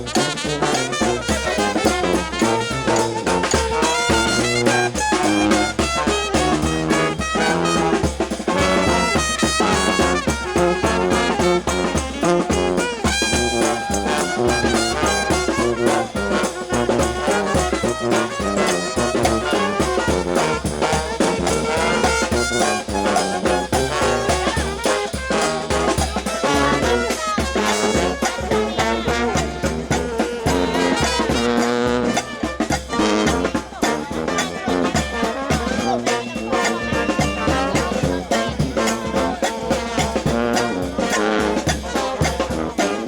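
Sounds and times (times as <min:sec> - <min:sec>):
bass drum beat: 0:00.0 - 0:43.0
brass band playing: 0:00.0 - 0:43.0.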